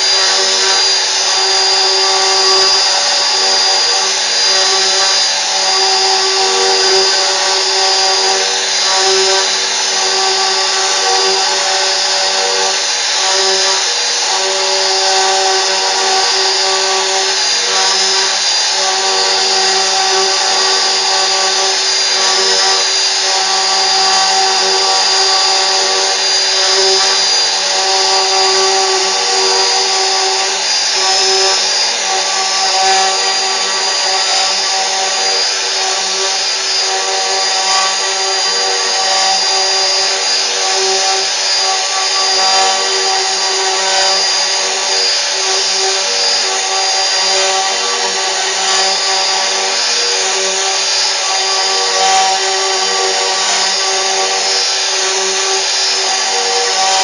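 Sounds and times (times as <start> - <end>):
cnc router spindle whine: 0.0 - 57.0.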